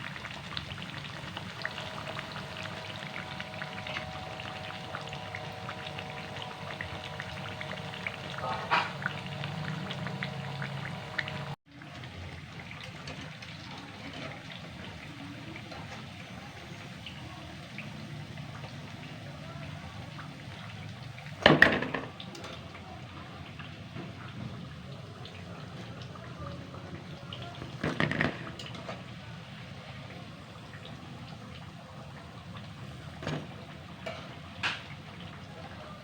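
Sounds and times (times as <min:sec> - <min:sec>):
fritters frying in hot oil: 0:00.0 - 0:36.0.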